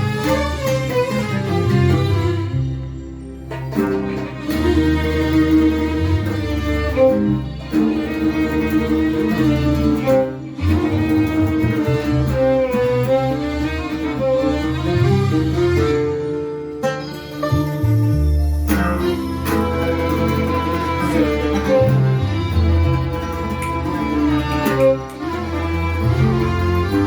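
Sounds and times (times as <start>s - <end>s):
bowed strings playing melody: 0.0s - 27.0s
steady bass line: 0.0s - 27.0s.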